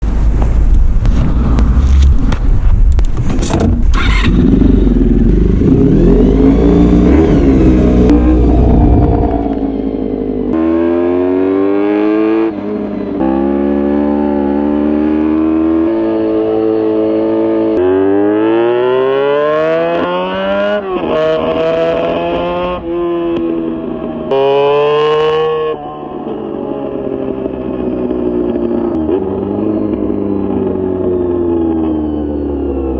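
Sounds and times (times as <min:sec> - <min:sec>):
motorcycle engine accelerating: 0:00.1 - 0:32.9.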